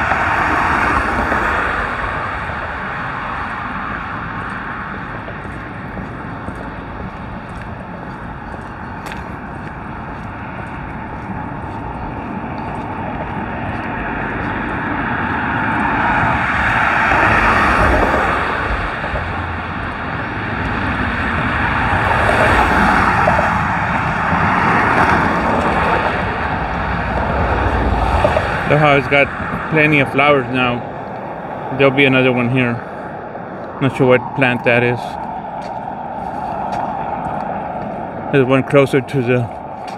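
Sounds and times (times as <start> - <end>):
cars passing on highway: 0.0 - 39.9.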